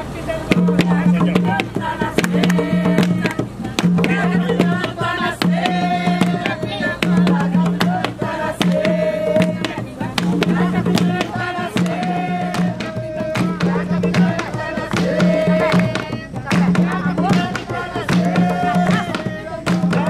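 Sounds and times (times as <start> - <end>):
voices singing: 0.0 - 20.0
hand drums beating: 0.4 - 20.0.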